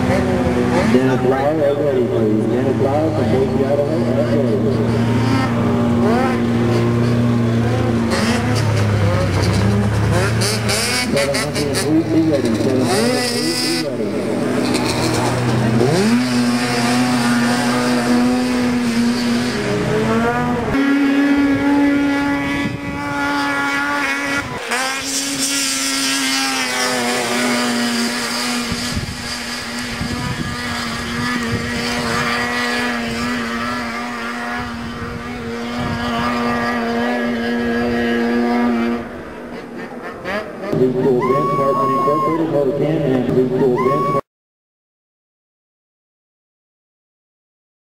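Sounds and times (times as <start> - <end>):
snowmobile engine revving high: 0.0 - 44.2.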